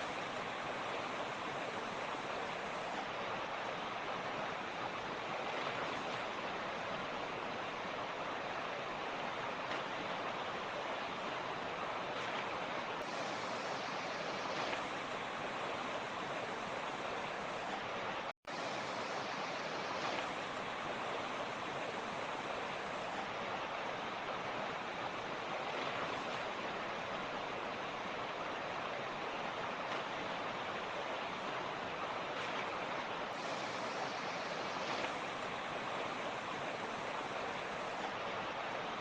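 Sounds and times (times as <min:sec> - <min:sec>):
water rushing over rocks: 0:00.0 - 0:39.0.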